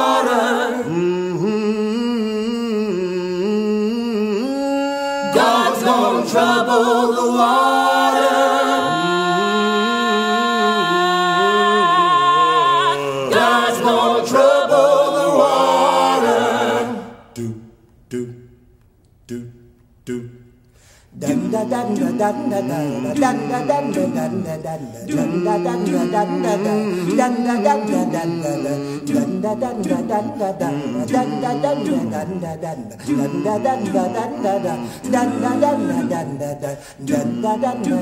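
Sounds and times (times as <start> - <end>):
a cappella vocal ensemble: 0.0 - 38.0.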